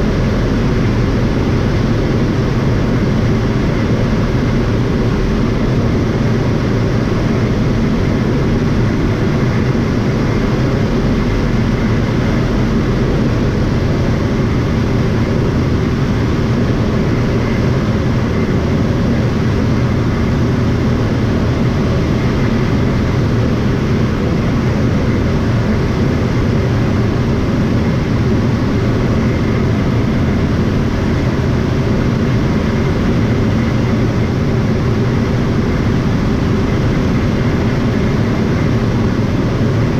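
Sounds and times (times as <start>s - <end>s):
propeller airplane engine droning: 0.0s - 39.9s.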